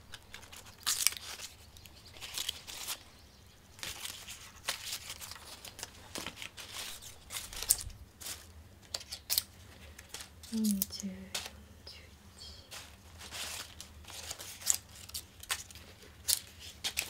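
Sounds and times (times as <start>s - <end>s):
leaves rustling and crinkling: 0.0s - 17.0s.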